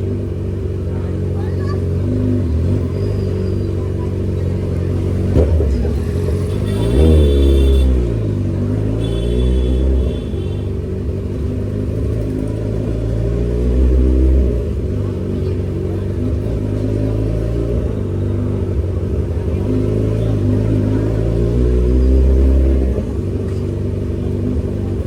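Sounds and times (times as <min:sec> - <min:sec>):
motorcycle idling: 0:00.0 - 0:25.0.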